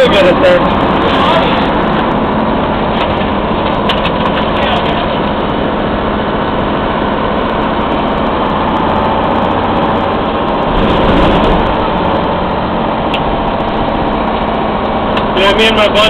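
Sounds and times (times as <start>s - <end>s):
truck engine running from inside cab: 0.0s - 16.0s.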